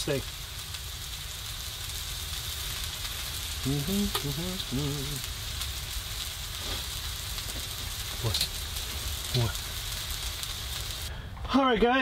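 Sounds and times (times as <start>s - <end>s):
steak sizzling in a frying pan: 0.0s - 11.1s.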